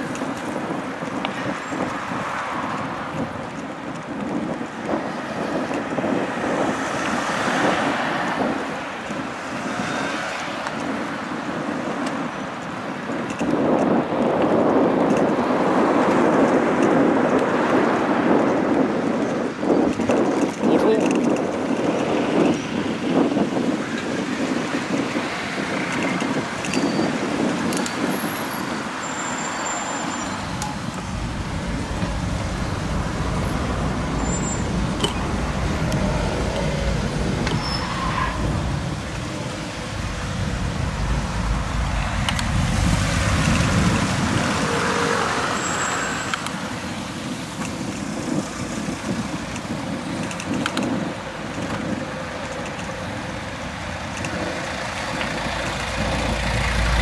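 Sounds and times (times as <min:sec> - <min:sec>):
low wind rumble: 0:00.0 - 0:57.0
passing road traffic: 0:00.0 - 0:57.0.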